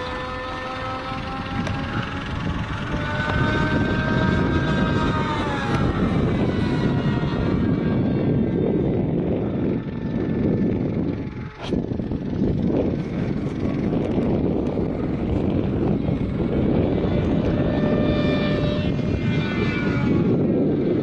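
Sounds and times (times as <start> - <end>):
model airplane engine drone: 0.0 - 21.0
propeller whine sliding down: 0.0 - 21.0.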